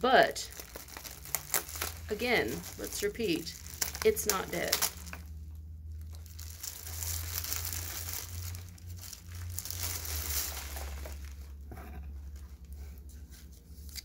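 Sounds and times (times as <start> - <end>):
plastic sleeve crinkling: 0.2 - 14.0.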